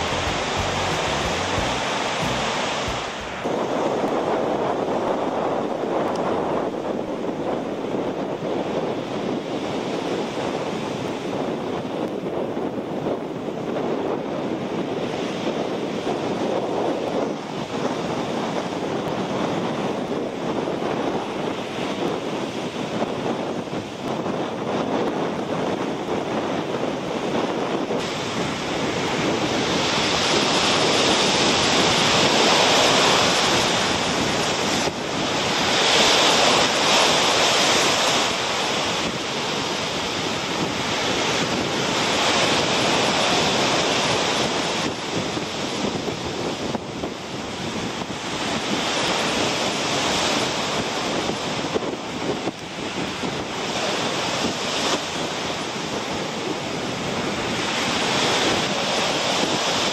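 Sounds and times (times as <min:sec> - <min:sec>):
surf breaking on rocky shore: 0:00.0 - 0:12.1, 0:14.9 - 0:59.9
wind on microphone: 0:00.0 - 0:59.9.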